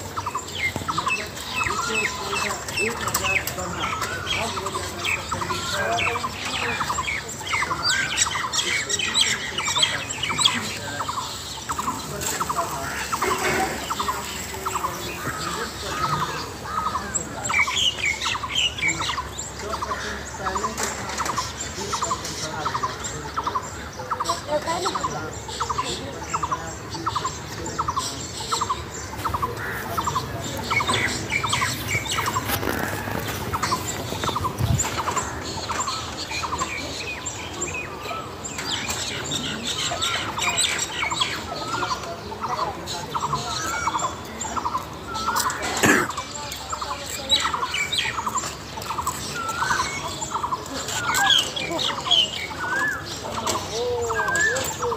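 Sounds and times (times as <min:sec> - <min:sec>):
birds chirping and twittering: 0:00.0 - 0:54.9.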